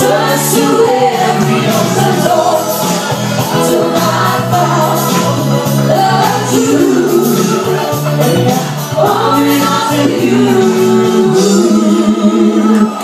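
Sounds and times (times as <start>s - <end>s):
loud backing music: 0.0s - 13.0s
people singing into microphones: 0.0s - 13.0s.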